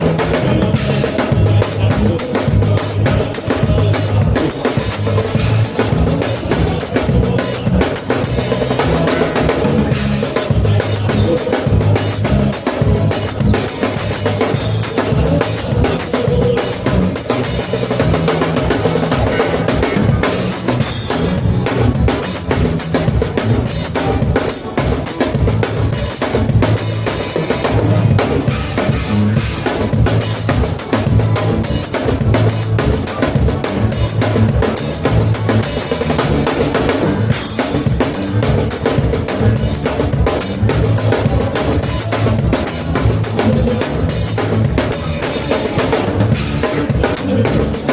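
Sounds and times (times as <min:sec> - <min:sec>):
bass line: 0:00.0 - 0:47.9
drum kit fast beat: 0:00.0 - 0:47.9.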